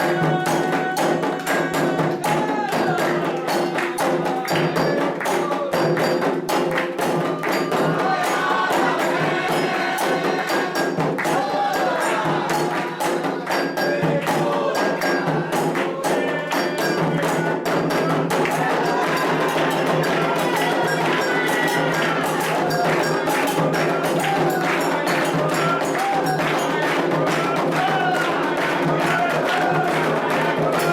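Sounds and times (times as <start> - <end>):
bell or shaker keeping time: 0.0 - 30.9
hand drums drumming: 0.0 - 30.9
voices singing: 0.0 - 30.9.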